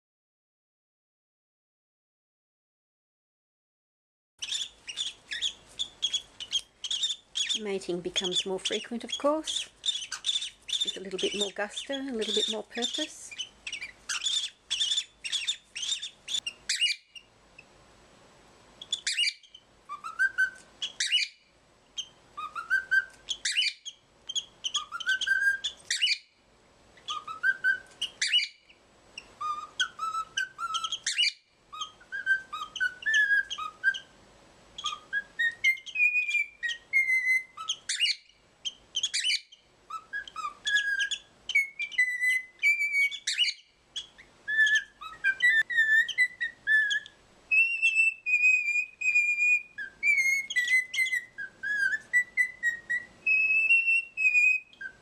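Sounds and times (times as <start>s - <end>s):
cockatiel chirping and whistling: 4.4s - 17.3s, 18.8s - 26.4s, 27.0s - 34.2s, 34.8s - 55.0s.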